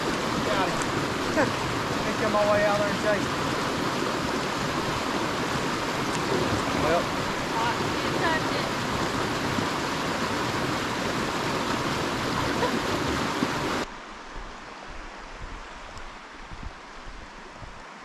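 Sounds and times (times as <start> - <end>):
dull wash of water: 0.0 - 18.0
rushing stream water: 0.0 - 18.0.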